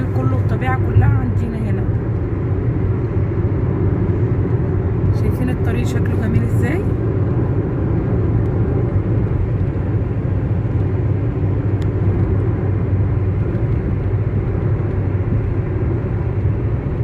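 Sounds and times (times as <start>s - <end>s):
car driving interior rumble: 0.0s - 17.0s.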